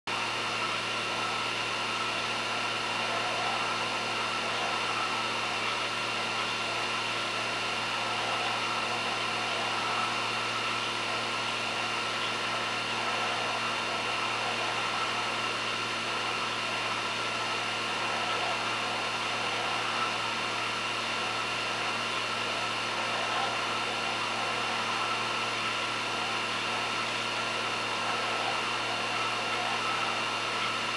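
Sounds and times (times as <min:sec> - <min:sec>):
machine hum and hiss: 0:00.1 - 0:30.9.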